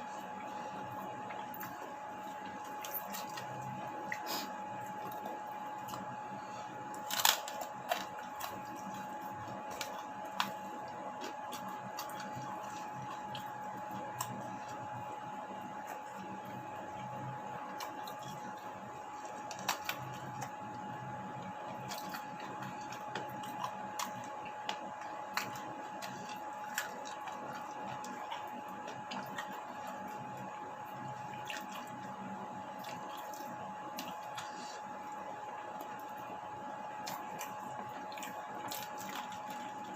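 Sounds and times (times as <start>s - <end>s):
steady high hum: 0.0s - 39.9s
wet chewing sounds: 0.0s - 39.9s.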